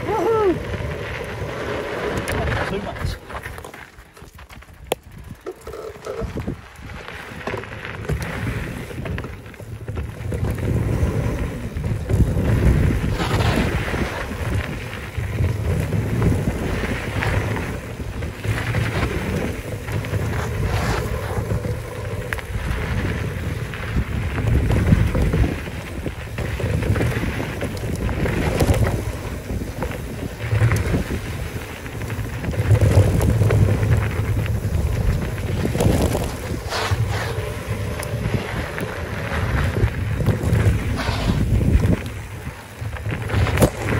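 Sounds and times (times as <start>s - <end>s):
tyres rumbling on dirt: 0.0s - 43.9s
wind buffeting microphone: 0.0s - 43.9s.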